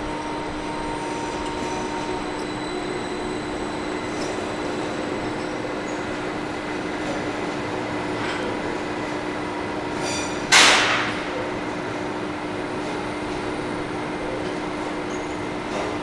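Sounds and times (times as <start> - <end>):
railway machinery hum: 0.0 - 16.0.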